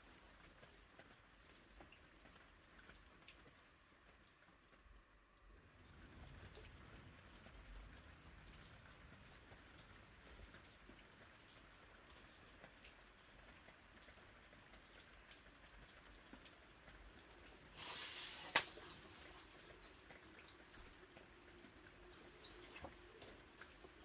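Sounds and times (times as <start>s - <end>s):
light rain pattering: 0.0s - 24.0s.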